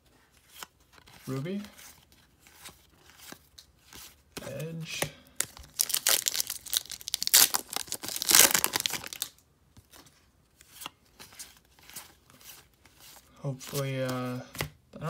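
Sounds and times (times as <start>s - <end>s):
trading cards shuffling: 0.4s - 14.8s.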